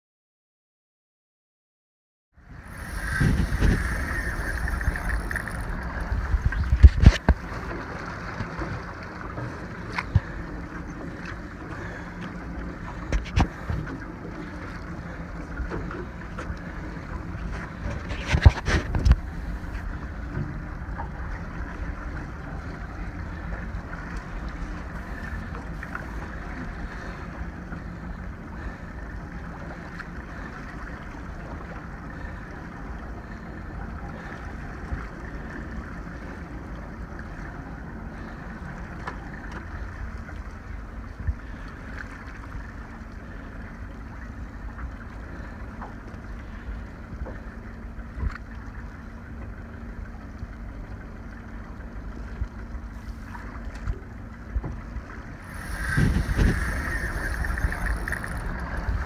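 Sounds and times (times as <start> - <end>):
wind: 2.3 - 59.0
sea noise: 2.4 - 59.0.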